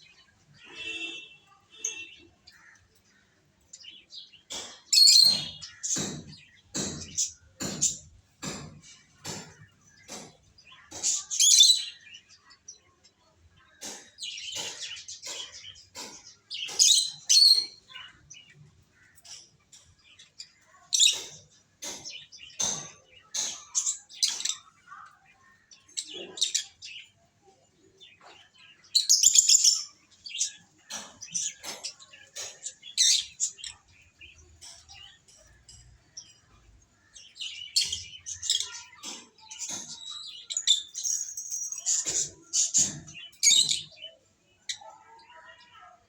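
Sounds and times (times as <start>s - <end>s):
lovebirds chirping: 0.0s - 46.0s.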